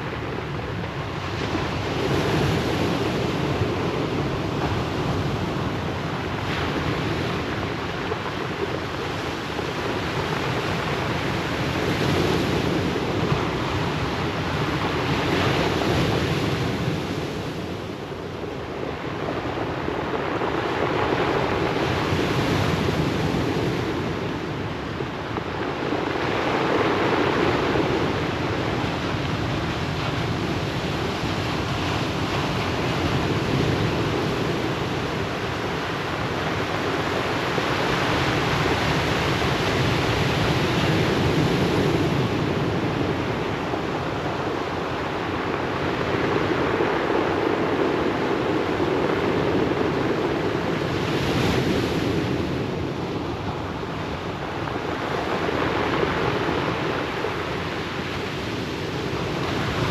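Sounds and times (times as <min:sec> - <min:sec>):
waves washing on pebble beach: 0:00.0 - 0:59.9.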